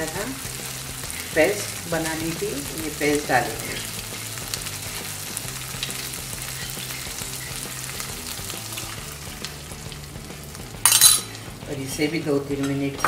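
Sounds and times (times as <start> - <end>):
tomato puree sizzling in a pan: 0.0 - 13.0.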